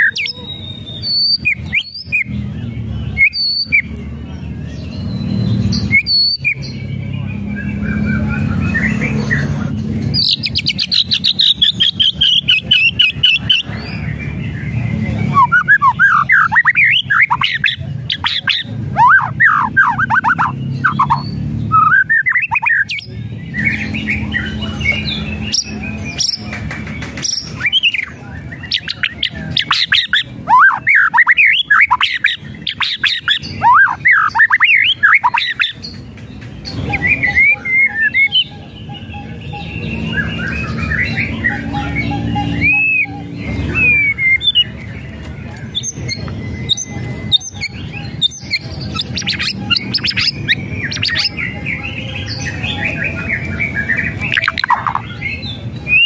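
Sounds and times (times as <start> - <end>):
bird singing varied whistles: 0.0 - 2.4, 3.1 - 4.0, 4.8 - 9.4, 15.1 - 26.4, 27.3 - 36.0, 36.8 - 56.0
harsh crackling bird calls: 0.0 - 56.0.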